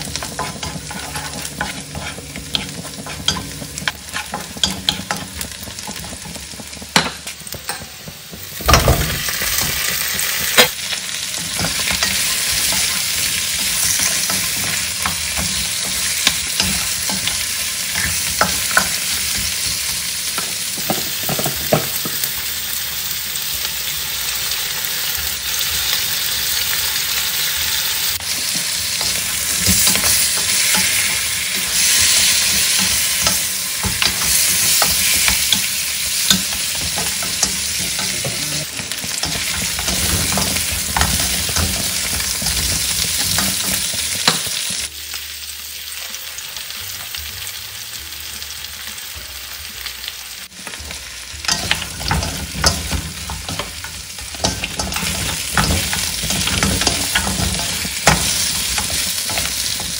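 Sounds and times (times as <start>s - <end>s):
wooden spatulas scraping and knocking pan: 0.0s - 22.3s, 28.2s - 44.9s, 50.6s - 59.9s
meat sizzling in wok: 0.0s - 59.9s.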